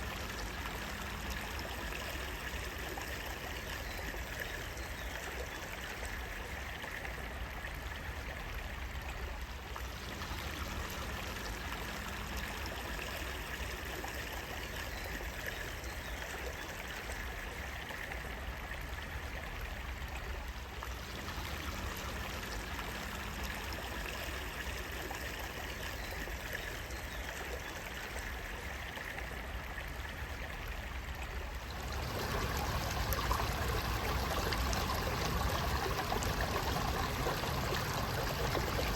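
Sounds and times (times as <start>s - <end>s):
running water flowing: 0.0s - 38.9s.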